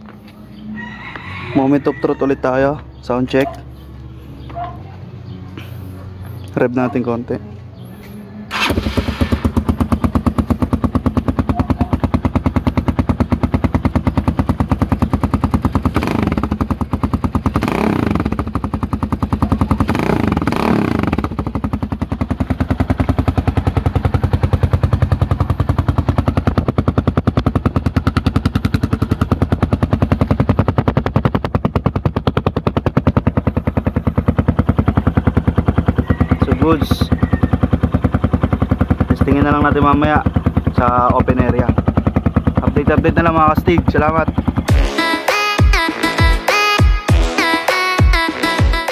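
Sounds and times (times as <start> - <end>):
motorcycle engine idling: 0.0 - 45.0
motorcycle throttle blips: 3.0 - 44.7.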